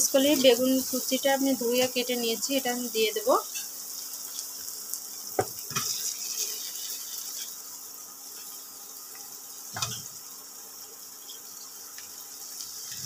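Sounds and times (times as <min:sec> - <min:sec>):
spices sizzling in a frying pan: 0:00.0 - 0:13.0.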